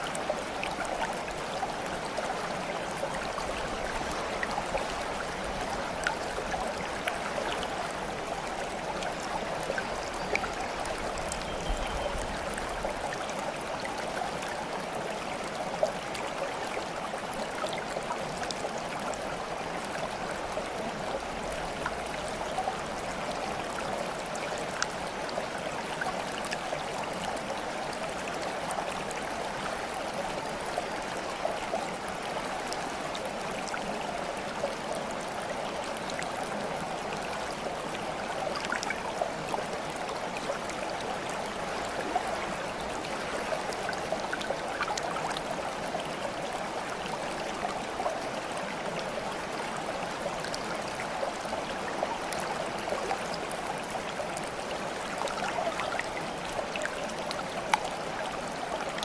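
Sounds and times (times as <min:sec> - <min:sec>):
water plinks and gurgles: 0:00.0 - 0:25.4, 0:37.1 - 0:59.0
stream water babbling: 0:00.0 - 0:59.0.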